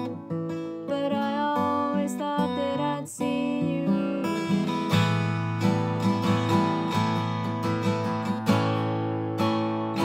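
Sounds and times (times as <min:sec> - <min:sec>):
acoustic guitar strummed: 0:00.0 - 0:10.0.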